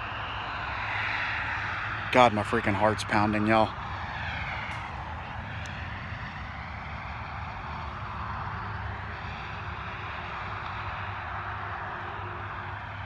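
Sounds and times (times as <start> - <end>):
distant highway traffic: 0.0 - 13.0.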